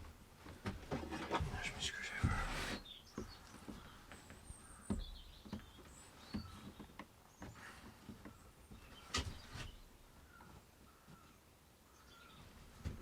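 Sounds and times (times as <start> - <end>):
birds chirping: 1.0 - 13.0.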